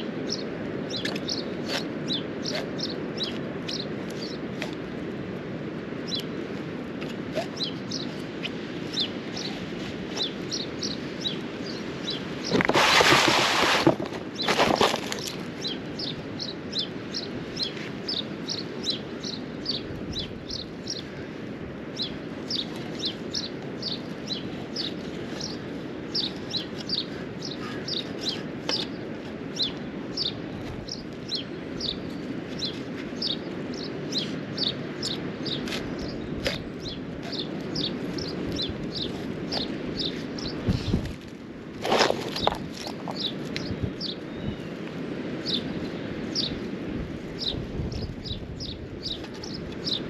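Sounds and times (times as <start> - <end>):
bird chirping: 0.2 - 4.7, 7.3 - 13.2, 14.4 - 21.1, 22.0 - 41.0, 41.9 - 44.8, 45.4 - 46.6, 47.4 - 50.0.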